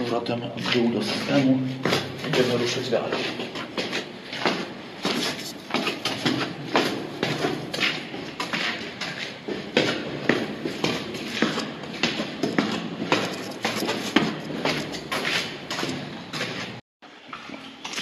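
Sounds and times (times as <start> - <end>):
footsteps on concrete stairs: 0.0 - 16.8.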